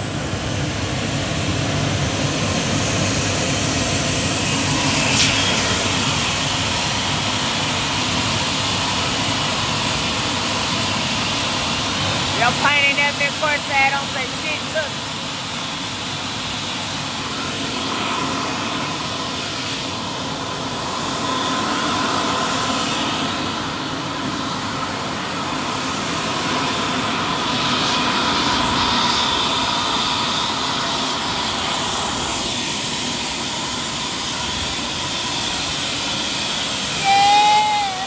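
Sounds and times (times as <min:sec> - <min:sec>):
jet engine whine: 0:00.0 - 0:38.0.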